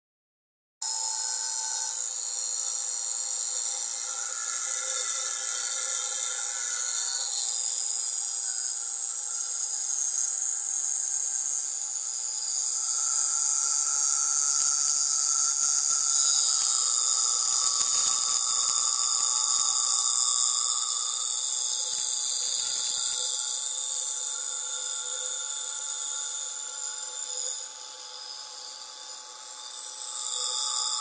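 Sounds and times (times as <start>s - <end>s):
small electric motor whirring: 0.8s - 31.0s.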